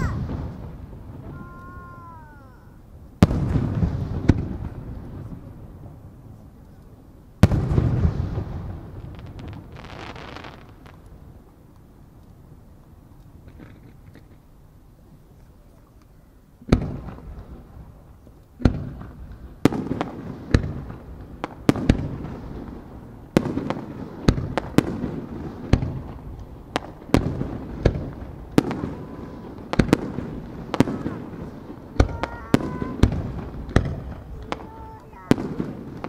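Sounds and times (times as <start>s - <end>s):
firework bangs: 0.0s - 6.2s, 7.3s - 11.5s, 16.6s - 36.0s.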